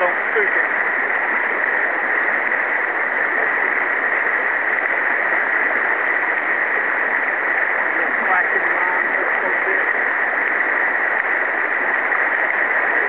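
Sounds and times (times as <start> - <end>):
river water flowing over riffle: 0.0 - 13.0.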